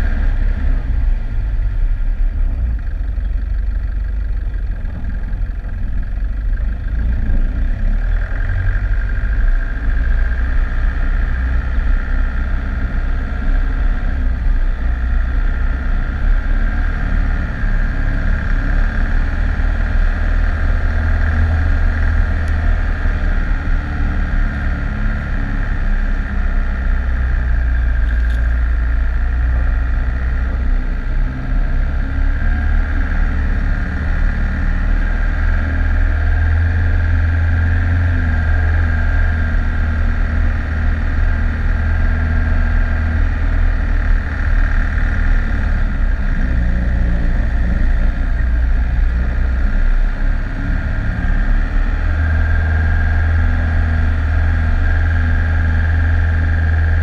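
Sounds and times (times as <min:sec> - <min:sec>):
high-pitched whine: 0:00.0 - 0:57.0
vehicle engine and road rumble: 0:00.0 - 0:57.0.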